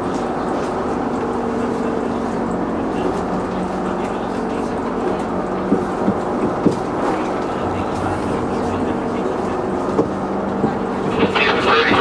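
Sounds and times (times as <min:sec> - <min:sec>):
bus engine drone: 0:00.0 - 0:12.0
road rumble: 0:00.0 - 0:12.0.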